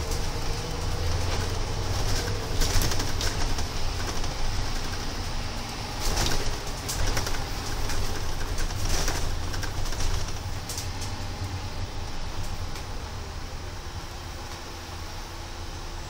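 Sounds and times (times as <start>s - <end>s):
bus body and windows rattling: 0.0s - 16.0s
bus engine and road rumble: 0.0s - 16.0s.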